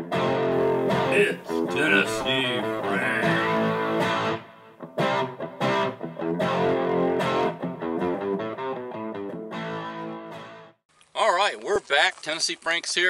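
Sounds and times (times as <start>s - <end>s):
guitar chords strummed: 0.0s - 10.8s.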